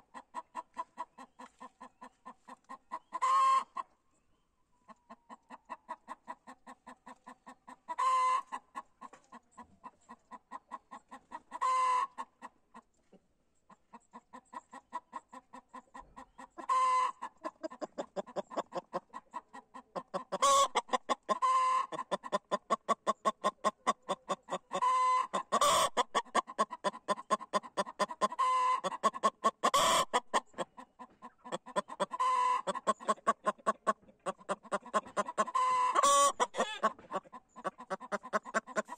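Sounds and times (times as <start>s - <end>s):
hen cackling: 0.0s - 3.9s, 5.1s - 9.1s, 10.3s - 12.5s, 14.1s - 38.9s.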